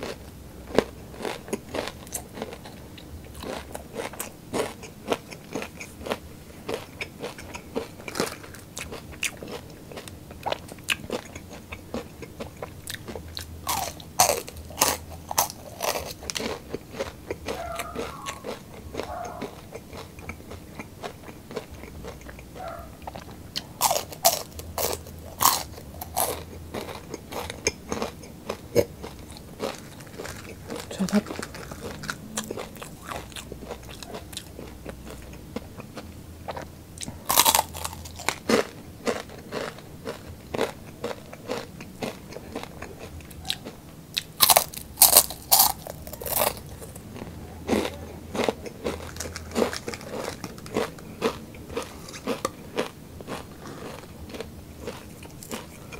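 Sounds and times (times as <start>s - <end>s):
person chewing crispy snacks: 0.0s - 55.9s.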